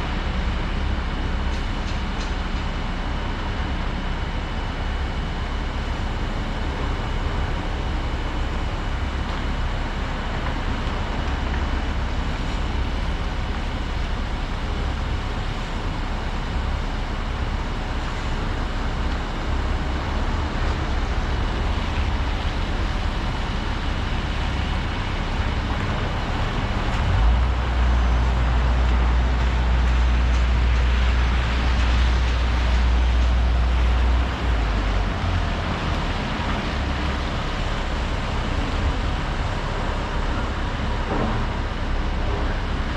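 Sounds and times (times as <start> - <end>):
excavator engine rumbling: 0.0 - 42.9.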